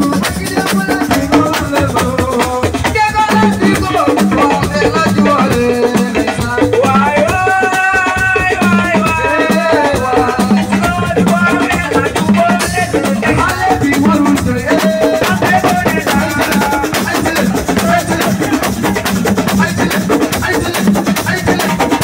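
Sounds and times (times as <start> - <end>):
drums: 0.0 - 22.0
shaker percussion: 0.0 - 22.0.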